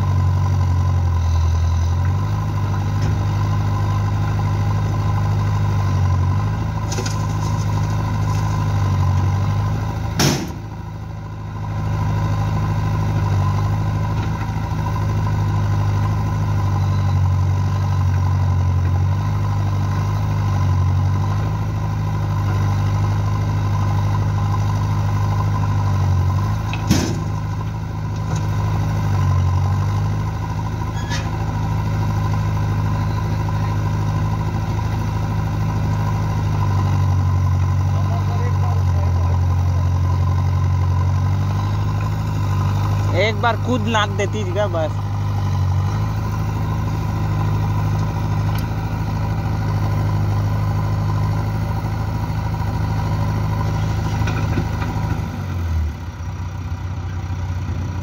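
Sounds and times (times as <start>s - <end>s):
backhoe digging soil: 0.0s - 11.0s, 11.7s - 56.0s
diesel engines running: 0.0s - 58.0s.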